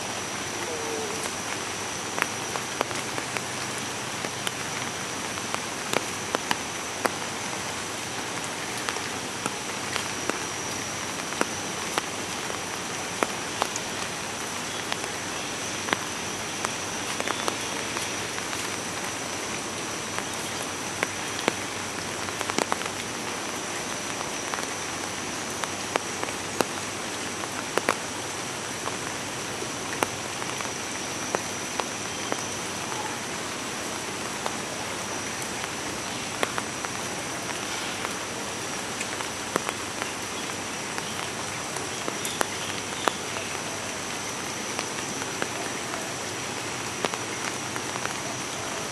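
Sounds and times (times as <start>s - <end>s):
heavier raindrops landing: 0.0s - 48.9s
steady rain falling: 0.0s - 48.9s.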